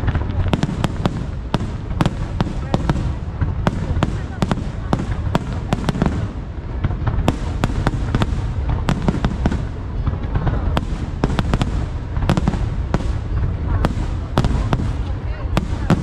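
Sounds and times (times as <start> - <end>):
fireworks cracks and bangs: 0.0 - 16.0
low rumble: 0.0 - 16.0.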